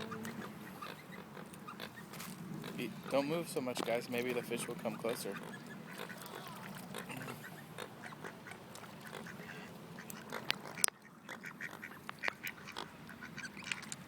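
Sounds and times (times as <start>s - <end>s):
ducks quacking: 0.0s - 13.9s.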